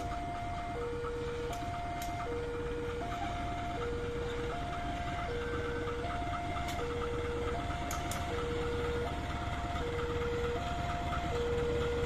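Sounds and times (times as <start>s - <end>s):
diesel locomotive running: 0.0s - 12.0s
two-tone crossing alarm: 0.0s - 12.0s.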